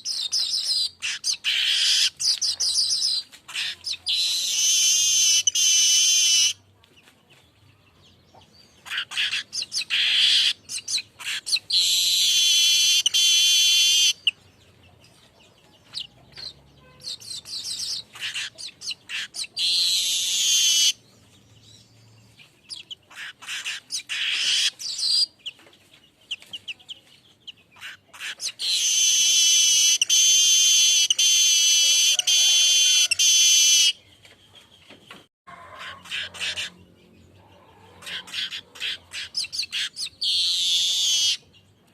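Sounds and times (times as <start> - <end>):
bird chirps and chatter: 0.0 - 41.9.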